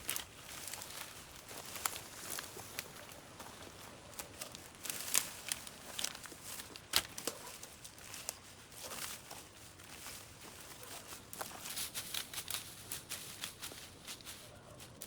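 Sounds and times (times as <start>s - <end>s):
dry brush rustling and crackling: 0.0s - 15.0s.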